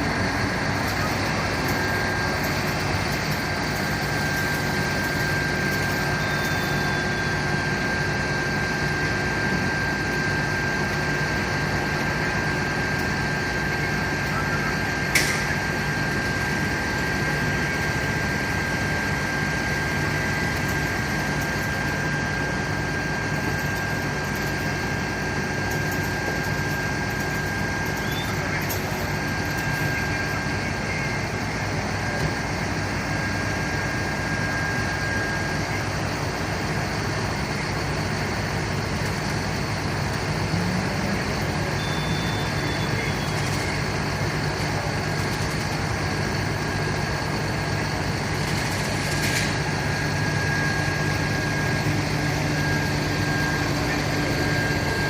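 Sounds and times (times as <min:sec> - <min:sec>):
constant high whine: 0:00.0 - 0:55.0.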